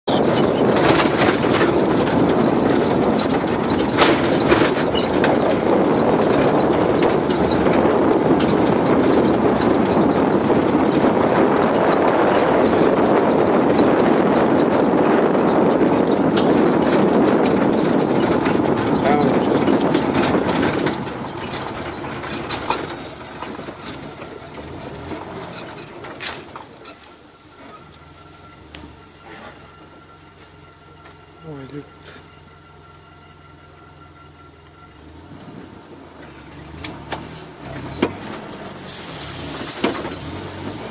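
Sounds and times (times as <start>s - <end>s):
vehicle body rattling and knocking: 0.0s - 40.9s
vehicle engine and tyre noise: 0.0s - 40.9s.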